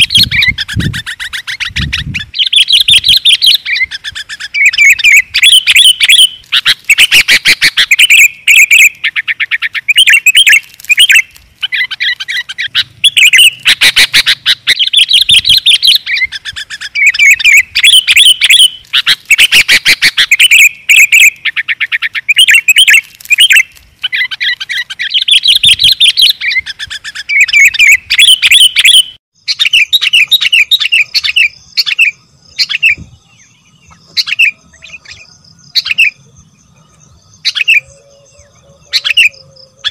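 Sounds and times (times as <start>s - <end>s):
bird whistling bubbly phrases: 0.0s - 36.3s, 37.3s - 39.9s
bird chattering trills: 0.0s - 39.9s.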